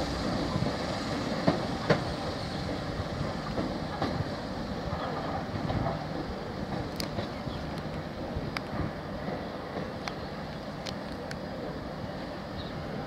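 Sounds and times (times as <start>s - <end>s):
train wheels clicking over rail joints: 0.0s - 11.4s
train running noise: 0.0s - 13.0s.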